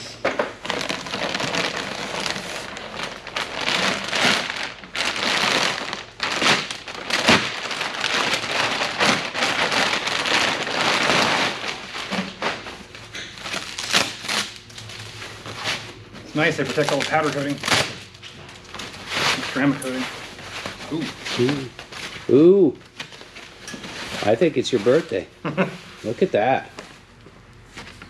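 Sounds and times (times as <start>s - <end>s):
plastic wrap crinkling and rustling: 0.5s - 25.3s.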